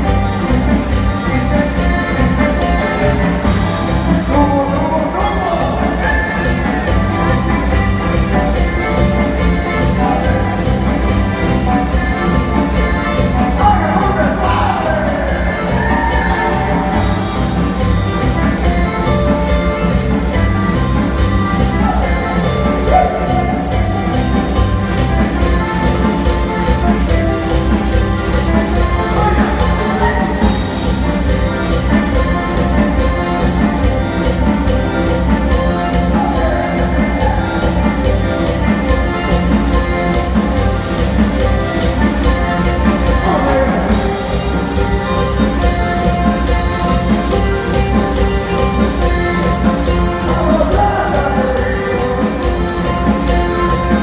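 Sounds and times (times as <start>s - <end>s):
accordion: 0.0s - 54.0s
cumbia band playing: 0.0s - 54.0s
driving percussion beat: 0.0s - 54.0s
electric guitars: 0.0s - 54.0s.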